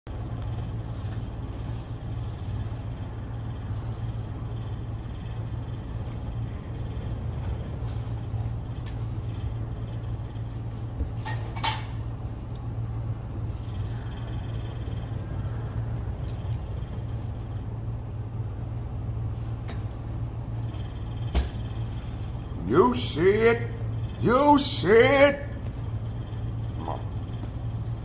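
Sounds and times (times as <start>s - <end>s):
steady low hum: 0.1s - 28.0s.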